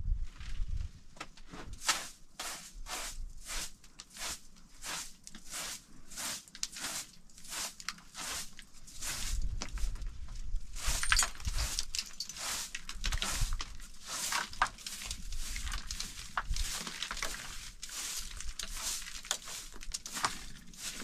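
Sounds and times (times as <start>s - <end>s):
hand broom sweeping carpet: 1.7s - 9.8s, 10.7s - 21.0s.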